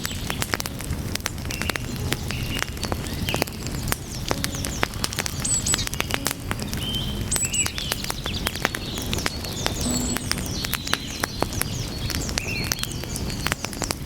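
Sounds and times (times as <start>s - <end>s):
low rumble of flames: 0.0s - 14.0s
wood fire crackling and popping: 0.0s - 14.0s
high chirps and whistles: 1.5s - 14.0s.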